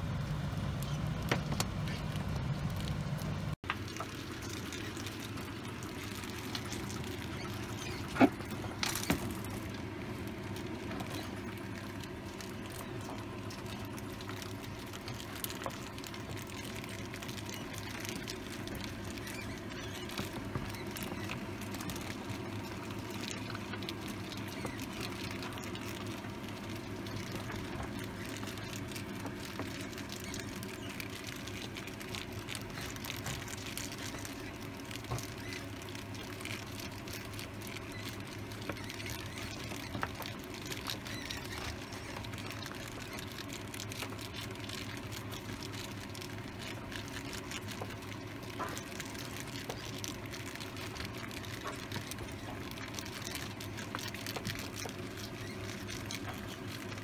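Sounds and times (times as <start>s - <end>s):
rats scrabbling in bedding: 0.0s - 57.0s
steady low hum: 0.0s - 57.0s.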